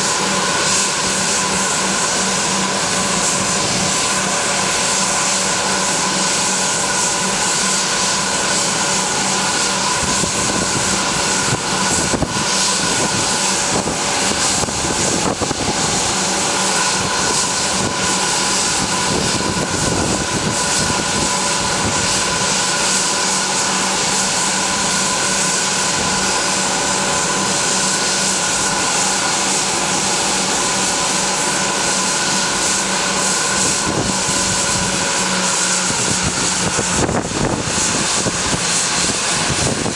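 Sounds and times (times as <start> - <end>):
jet engines idling whine: 0.0 - 39.9.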